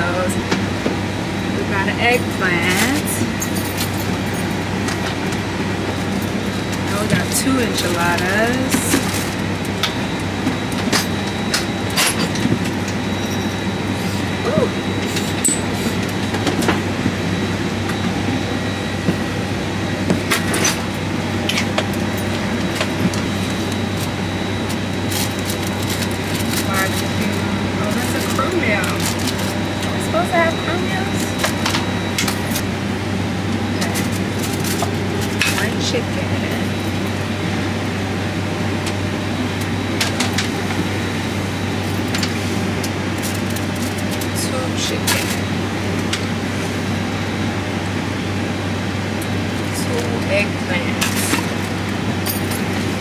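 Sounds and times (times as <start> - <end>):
airliner cabin drone: 0.0 - 53.0.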